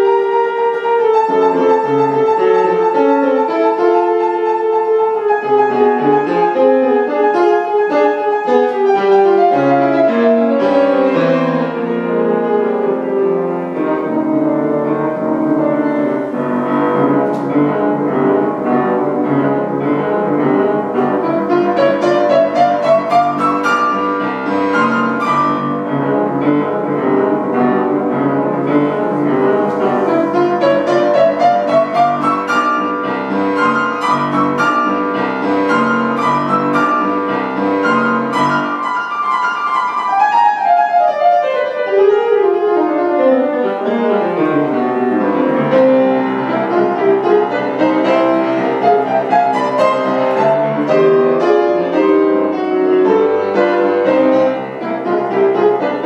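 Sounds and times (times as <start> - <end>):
solo grand piano piece: 0.0 - 56.0.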